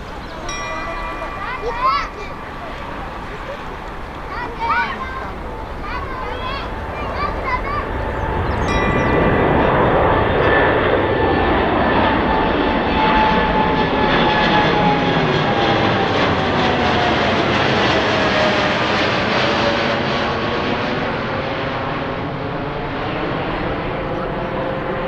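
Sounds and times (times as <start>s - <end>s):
jet airliner passing by: 0.0s - 25.0s.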